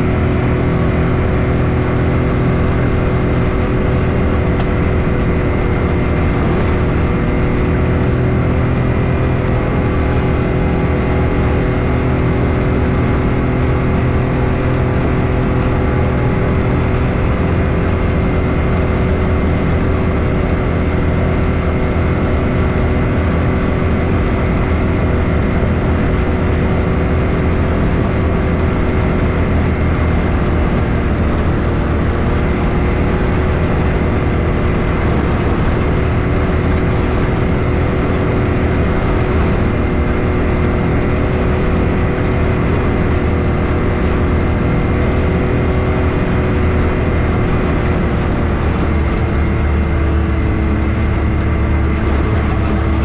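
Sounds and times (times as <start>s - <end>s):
vehicle engine cruising: 0.0s - 53.0s.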